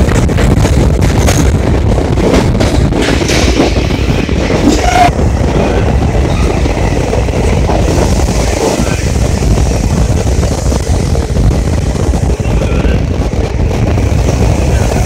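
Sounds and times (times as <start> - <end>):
rushing air: 0.0 - 15.0
train wheels rumbling on rails: 0.0 - 15.0.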